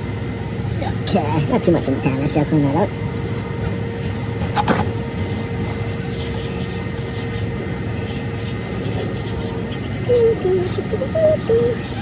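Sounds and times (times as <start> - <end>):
rumbling background noise: 0.0 - 12.0
steady hum: 0.0 - 12.0.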